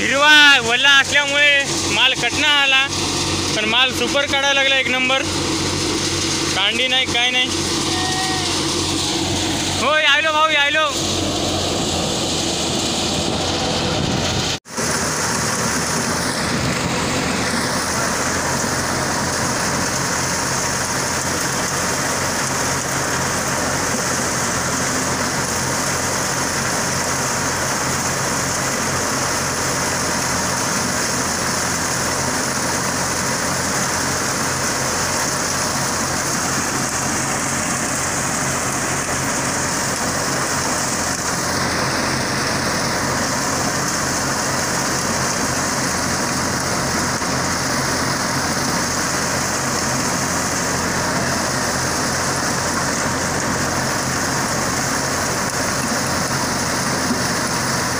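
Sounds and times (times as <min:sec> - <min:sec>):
thresher rushing rattle: 0:00.0 - 0:57.9.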